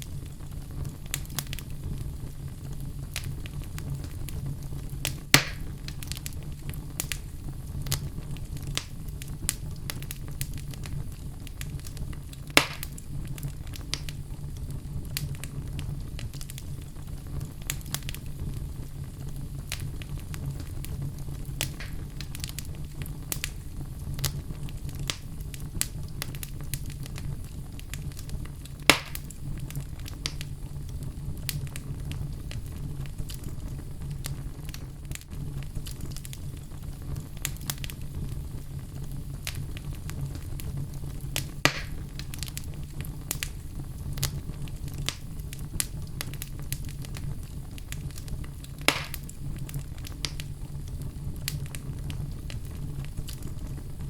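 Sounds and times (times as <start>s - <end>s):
loud sharp pops of fire: 0.0s - 54.0s
wood logs burning: 0.0s - 54.0s.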